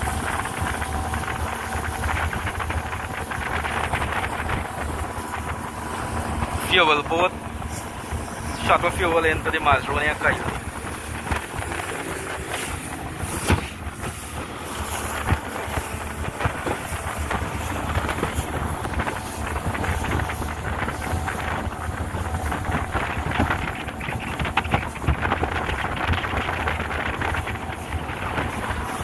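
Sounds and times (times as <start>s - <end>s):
boat engine running: 0.0s - 29.0s
wind buffeting microphone: 0.0s - 29.0s.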